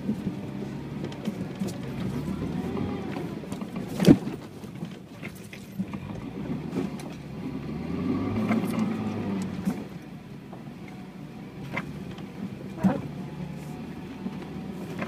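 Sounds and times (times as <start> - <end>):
creaks and clicks from car body: 0.0 - 7.3, 8.3 - 13.3
engine running under load: 0.0 - 15.0.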